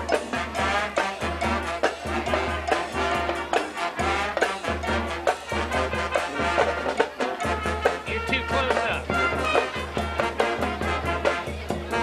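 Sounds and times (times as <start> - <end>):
brass chords: 0.0 - 12.0
driving drum beat: 0.0 - 12.0.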